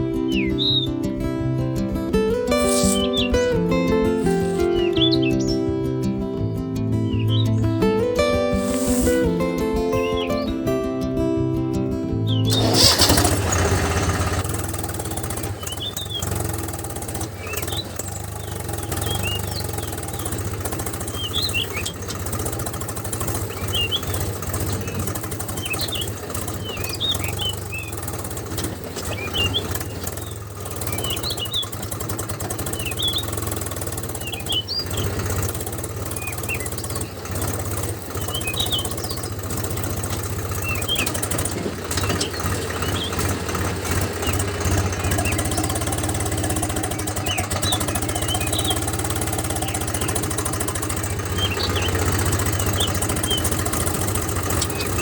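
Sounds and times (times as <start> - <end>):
birds chirping: 0.0 - 10.9, 12.3 - 55.0
small motor humming: 2.1 - 5.6, 7.6 - 10.4, 12.5 - 55.0.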